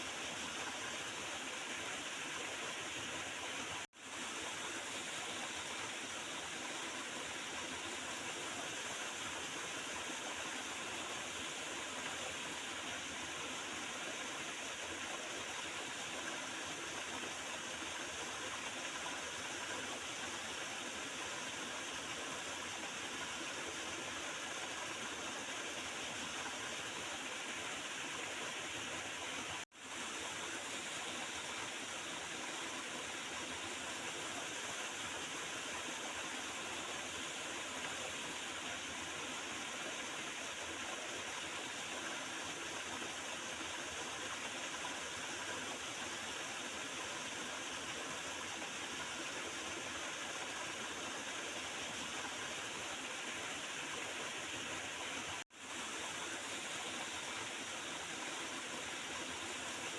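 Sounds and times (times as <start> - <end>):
river water gurgling and flowing: 0.0 - 59.9.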